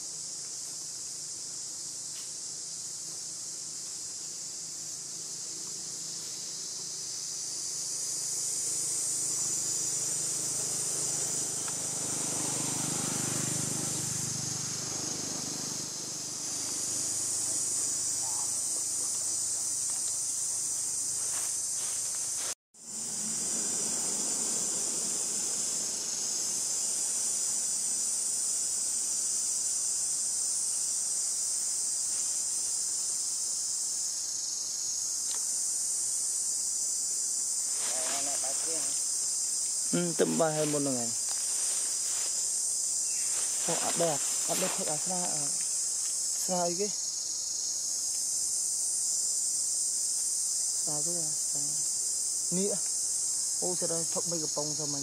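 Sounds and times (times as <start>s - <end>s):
forest insects chorus: 0.0s - 55.0s.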